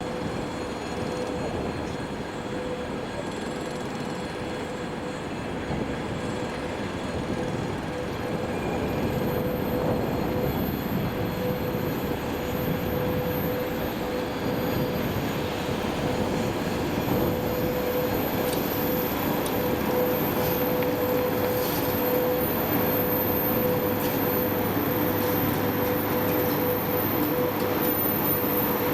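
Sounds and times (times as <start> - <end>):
train wheels rumbling on rail: 0.0 - 28.9.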